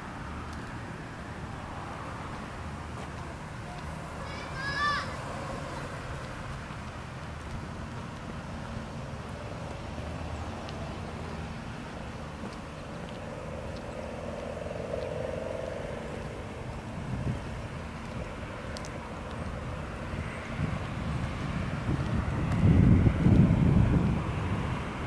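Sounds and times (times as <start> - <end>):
distant vehicles rumbling: 0.0 - 25.0
faint engine drone: 0.0 - 25.0.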